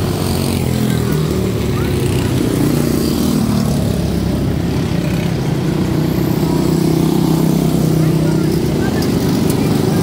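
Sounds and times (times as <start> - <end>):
race car engines buzzing: 0.0 - 10.0.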